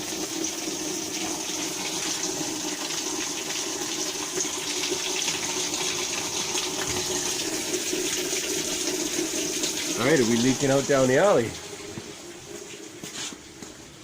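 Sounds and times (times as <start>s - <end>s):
water pouring into washing machine: 0.0s - 14.0s.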